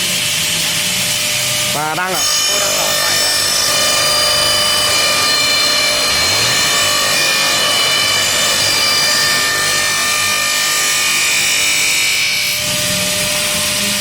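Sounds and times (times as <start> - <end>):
milling machine whining: 0.0 - 14.0.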